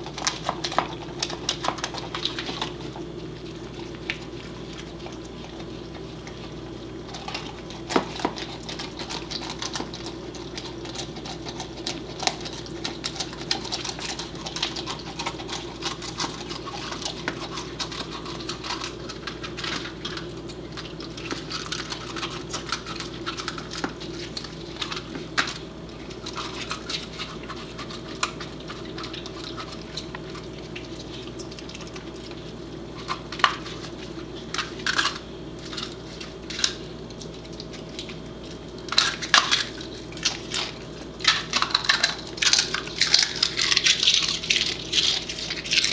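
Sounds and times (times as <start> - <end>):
dog claws clicking and scratching: 0.0 - 45.9
steady low hum: 0.0 - 45.9.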